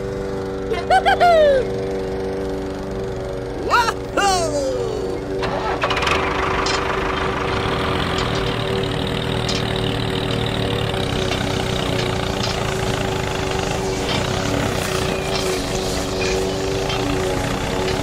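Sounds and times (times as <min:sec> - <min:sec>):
small motor humming: 0:00.0 - 0:18.0.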